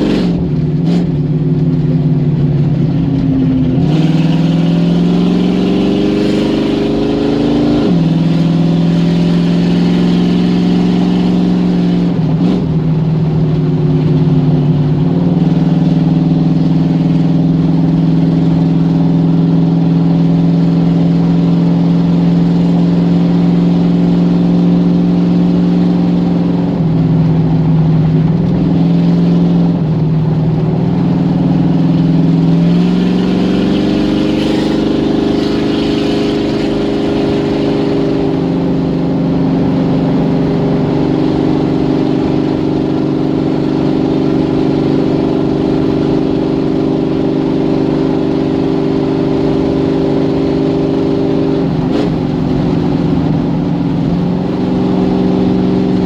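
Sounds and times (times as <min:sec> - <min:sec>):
car engine revving under load: 0:00.0 - 0:56.0.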